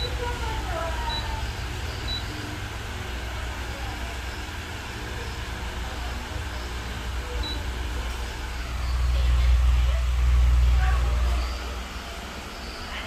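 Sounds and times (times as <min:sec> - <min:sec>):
wall fan rumble: 0:00.0 - 0:13.0.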